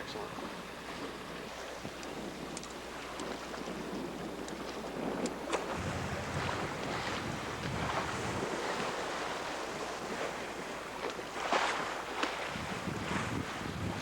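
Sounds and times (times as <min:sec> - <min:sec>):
rush of ocean water: 0:00.0 - 0:14.0
wind buffeting microphone: 0:00.0 - 0:14.0.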